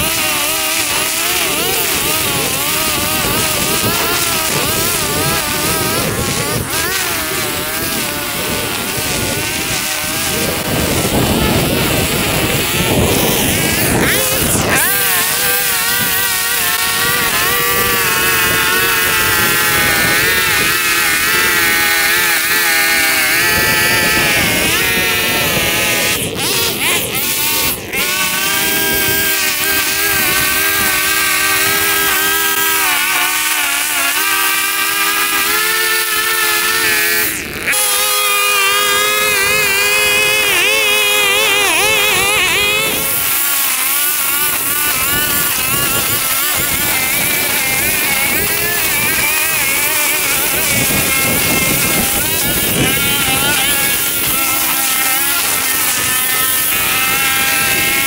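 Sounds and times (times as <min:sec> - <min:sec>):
lawn mower engine cutting grass: 0:00.0 - 0:58.0.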